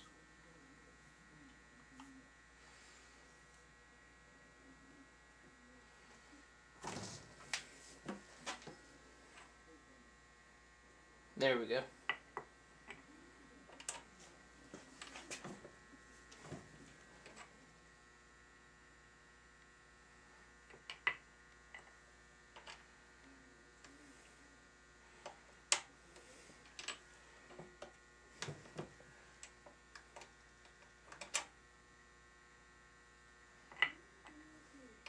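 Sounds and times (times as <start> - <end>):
steady electrical hum: 0.0 - 35.0.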